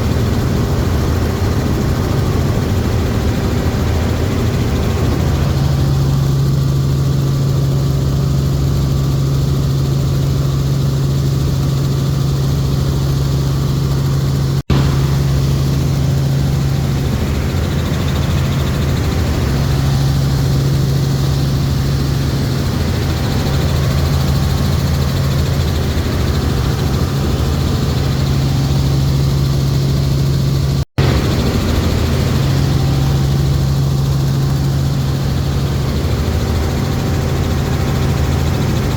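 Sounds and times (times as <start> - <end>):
helicopter engine and rotors drone: 0.0 - 38.9.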